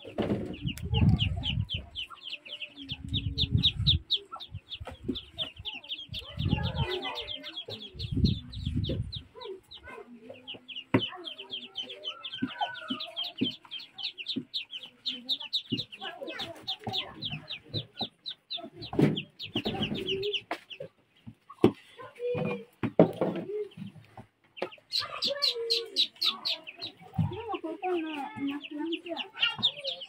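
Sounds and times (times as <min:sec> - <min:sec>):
chicken clucks: 0:00.0 - 0:30.0
chickens peeping: 0:00.0 - 0:30.0.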